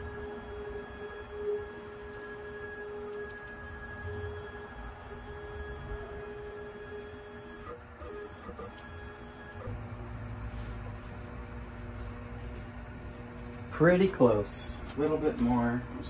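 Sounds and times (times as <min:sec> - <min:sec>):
stepper motor whine: 0:00.0 - 0:16.0.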